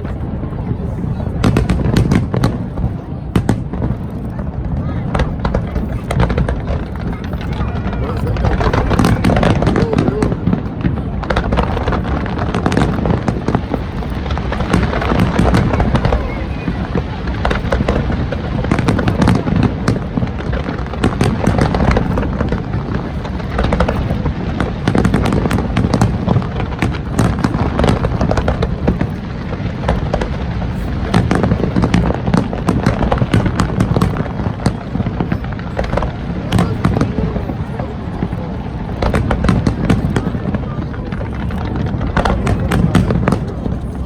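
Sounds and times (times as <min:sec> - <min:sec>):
fireworks cracks and bangs: 0:00.0 - 0:44.0.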